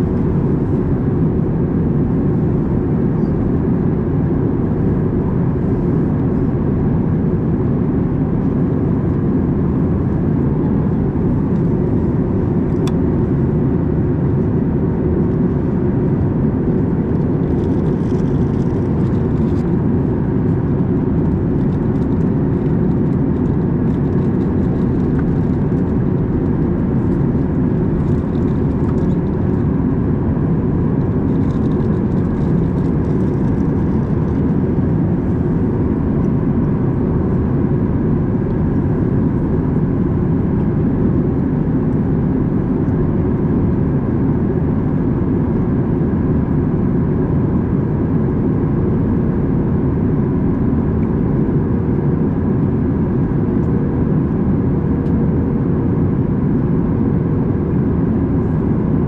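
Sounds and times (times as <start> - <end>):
airliner cabin air and engine rush: 0.0 - 59.0
faint steady hum: 0.0 - 59.0.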